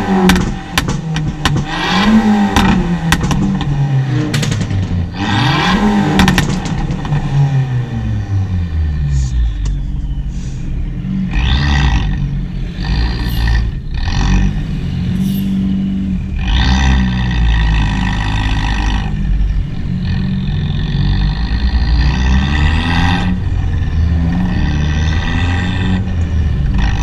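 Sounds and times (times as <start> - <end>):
car engine revving raspy: 0.0 - 27.0.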